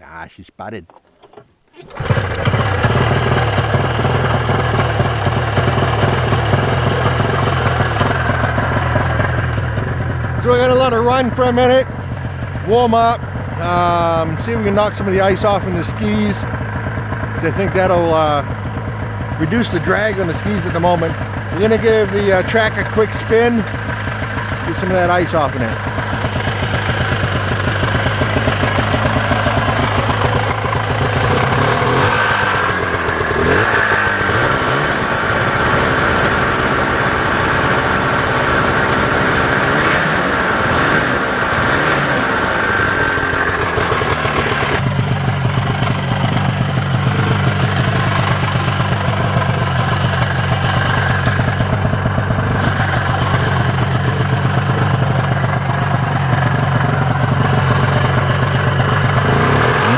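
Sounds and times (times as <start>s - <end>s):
snowmobile engine idling and revving: 1.8s - 59.9s.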